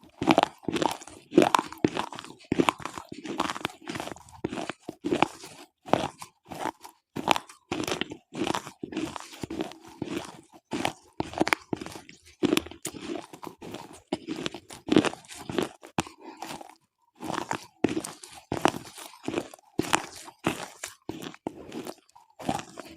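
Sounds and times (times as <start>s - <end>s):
gritty crunching of chewing: 0.0s - 22.9s.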